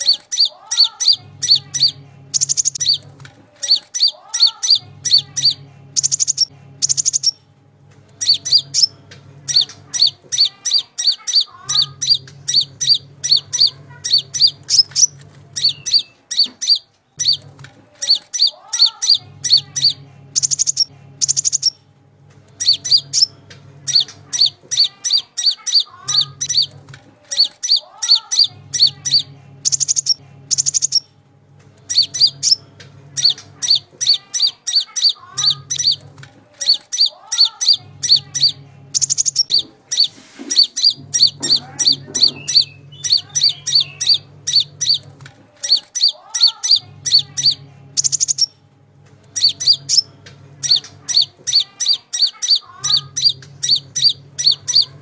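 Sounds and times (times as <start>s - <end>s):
songbird chirping: 0.0s - 31.1s, 31.7s - 55.0s
low hum: 0.0s - 55.0s.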